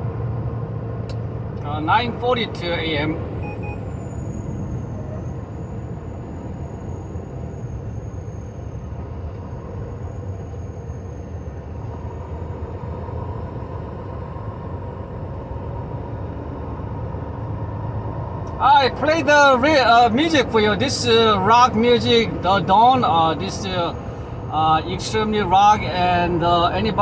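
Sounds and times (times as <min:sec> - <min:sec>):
truck engine and road noise: 0:00.0 - 0:27.0.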